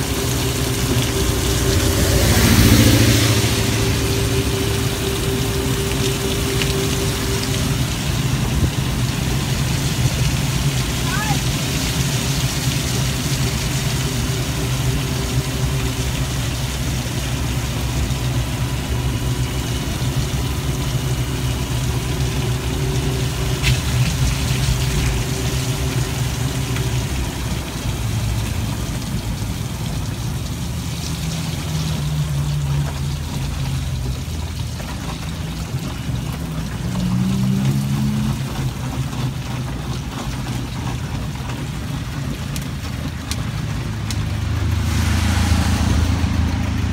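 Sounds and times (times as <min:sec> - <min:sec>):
low hum: 0:00.0 - 0:31.7, 0:32.8 - 0:46.9
water and tyre noise: 0:00.0 - 0:46.9.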